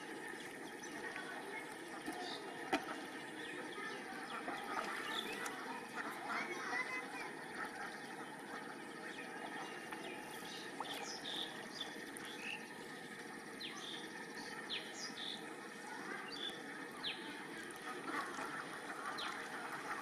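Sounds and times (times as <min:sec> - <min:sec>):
outdoor background noise: 0:00.0 - 0:20.0
small birds chirping: 0:00.5 - 0:17.8.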